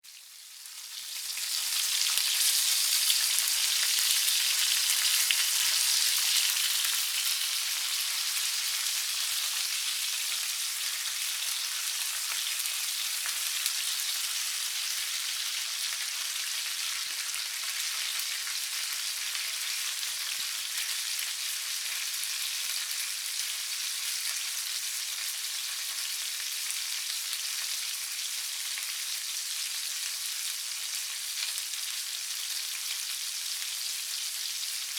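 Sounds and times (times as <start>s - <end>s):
sausages sizzling: 0.0s - 34.9s.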